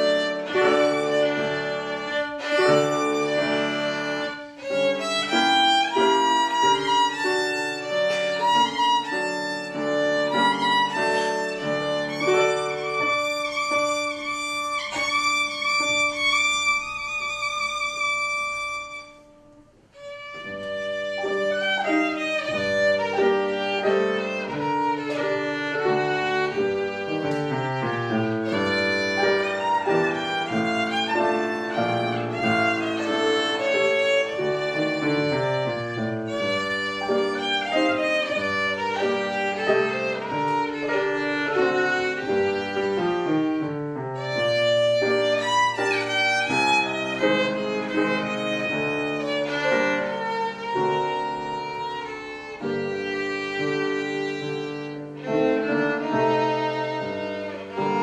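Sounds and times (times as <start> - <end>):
piano accompaniment: 0.0 - 58.0
violin melody: 0.0 - 58.0.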